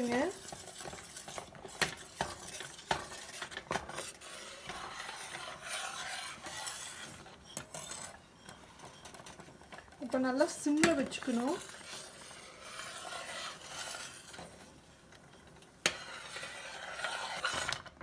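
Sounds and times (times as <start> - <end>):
spoon stirring in a pan: 0.0 - 18.0.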